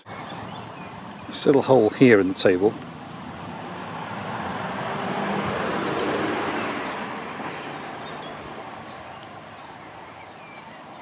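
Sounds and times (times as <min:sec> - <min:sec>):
vehicle passing by: 0:00.1 - 0:11.0.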